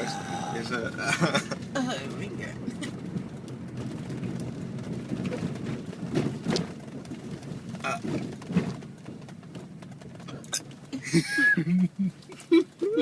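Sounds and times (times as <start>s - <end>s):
steady low rumble: 0.0s - 12.3s.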